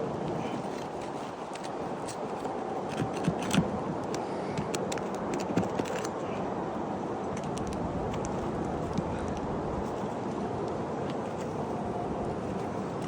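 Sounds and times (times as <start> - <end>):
light clicks and scrapes: 0.2 - 6.4, 7.3 - 13.0.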